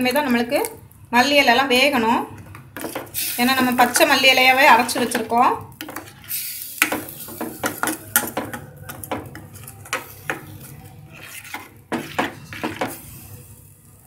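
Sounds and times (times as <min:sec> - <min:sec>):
spoon stirring in steel pot: 0:02.3 - 0:13.8.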